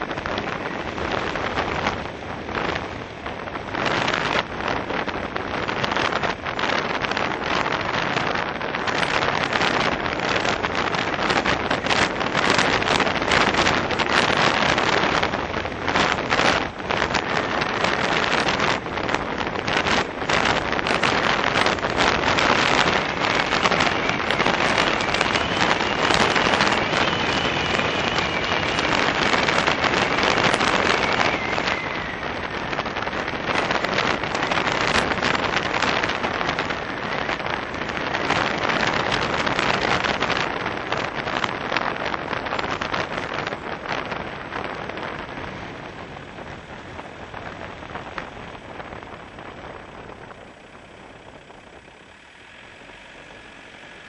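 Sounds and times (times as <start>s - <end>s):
car road and wind noise: 0.0s - 54.0s
wind crackling on microphone: 0.0s - 54.0s.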